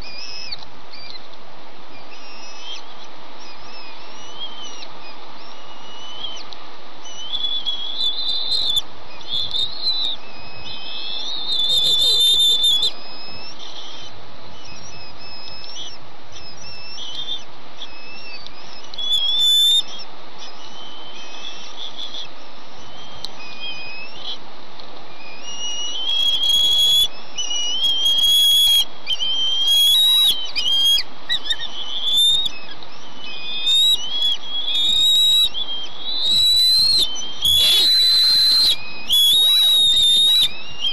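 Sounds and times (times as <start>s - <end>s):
eaglets whistled begging calls: 0.0s - 1.2s, 1.9s - 24.4s, 25.1s - 40.9s.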